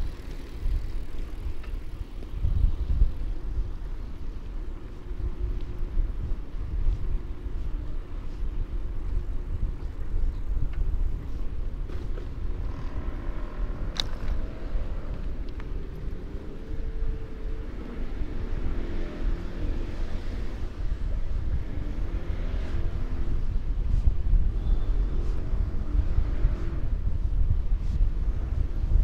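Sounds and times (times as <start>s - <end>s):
road traffic: 0.0s - 29.0s
wind on microphone: 0.0s - 29.0s.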